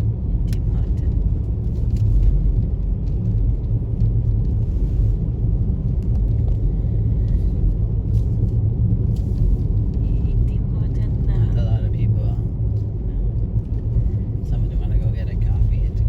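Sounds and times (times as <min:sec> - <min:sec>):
car driving on snowy road: 0:00.0 - 0:16.0.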